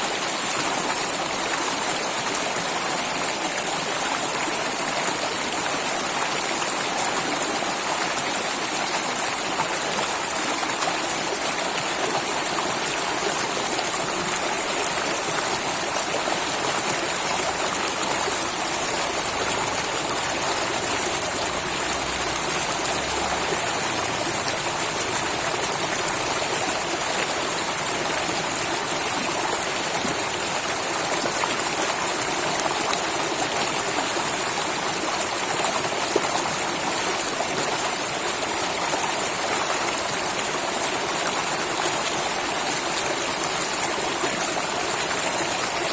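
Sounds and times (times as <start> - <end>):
stream flowing over rocks: 0.0 - 45.9.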